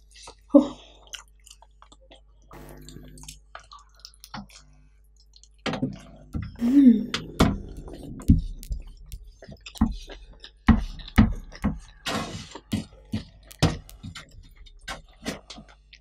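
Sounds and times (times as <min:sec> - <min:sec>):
chewing with mouth closed: 0:00.0 - 0:16.0
sharp clicks and smacks: 0:01.9 - 0:16.0.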